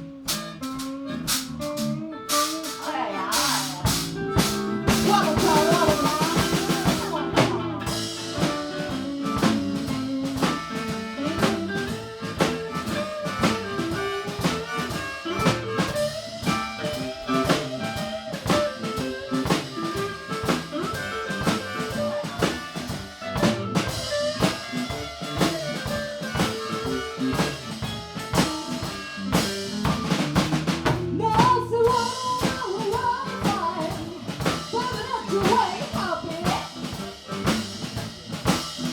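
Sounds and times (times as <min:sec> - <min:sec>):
drum kit: 0:00.0 - 0:38.9
guitar lead with bending notes: 0:00.0 - 0:38.9
live blues band playing: 0:00.0 - 0:38.9.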